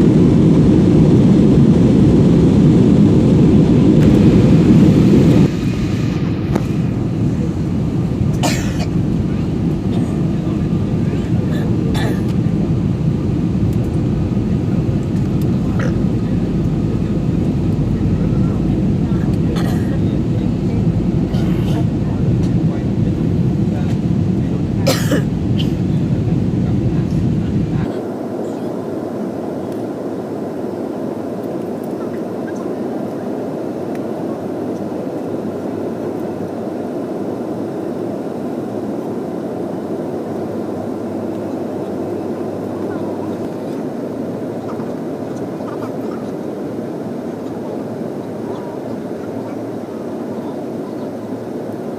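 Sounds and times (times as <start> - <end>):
aircraft engine rumble: 0.0 - 51.9.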